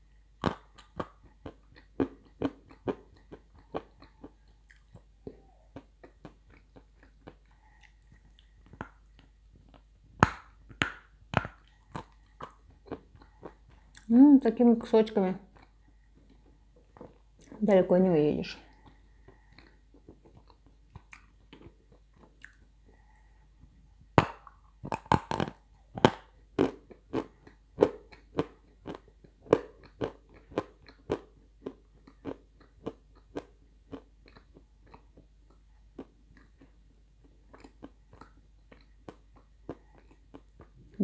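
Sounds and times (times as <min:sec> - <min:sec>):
crunching and chewing clay chunks: 0:00.0 - 0:14.8, 0:18.6 - 0:41.0.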